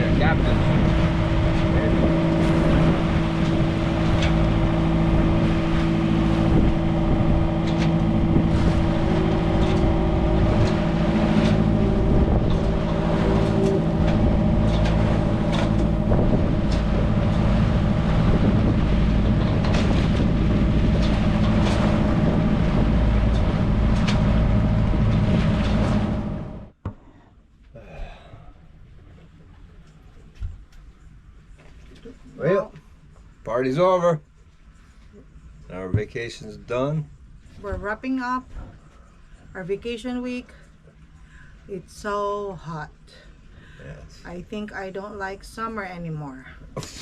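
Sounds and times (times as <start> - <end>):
boat engine humming: 0.0 - 47.0.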